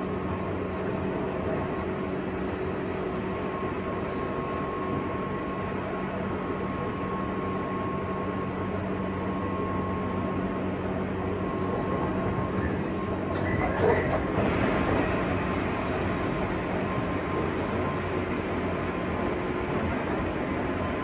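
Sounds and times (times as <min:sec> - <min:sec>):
train wheels rumbling on rail: 0:00.0 - 0:09.0, 0:10.1 - 0:21.0.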